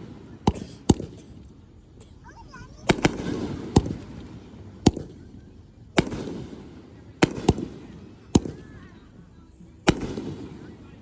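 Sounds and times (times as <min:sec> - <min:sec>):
fireworks bangs: 0:00.0 - 0:01.6, 0:02.3 - 0:09.0, 0:09.8 - 0:11.0.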